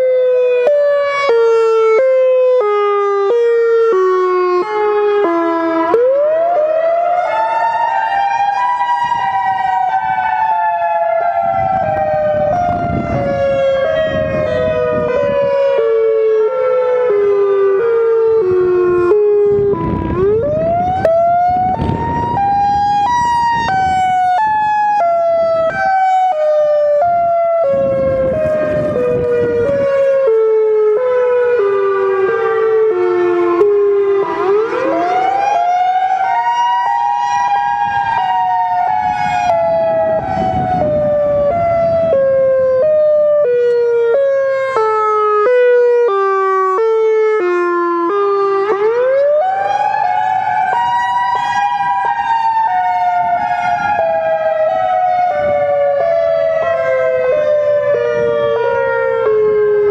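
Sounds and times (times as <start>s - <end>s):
electronic siren wailing: 0.0s - 59.9s.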